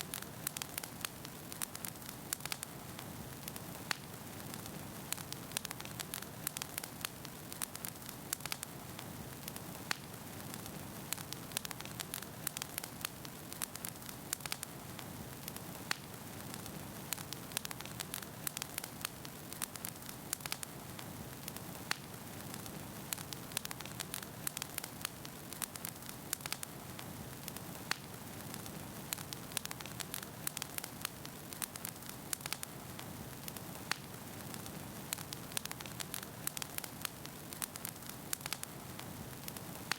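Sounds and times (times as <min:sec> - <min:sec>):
logs crackling and popping: 0:00.0 - 0:39.9
wood fire burning: 0:00.0 - 0:39.9.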